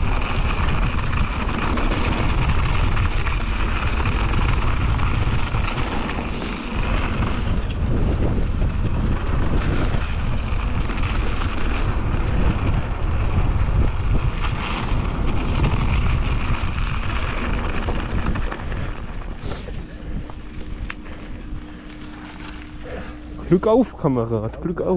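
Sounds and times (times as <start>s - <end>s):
bike knocks and rattles: 0.0s - 22.8s
wind buffeting microphone: 0.0s - 23.8s
tyres rumbling on dirt: 0.0s - 24.9s.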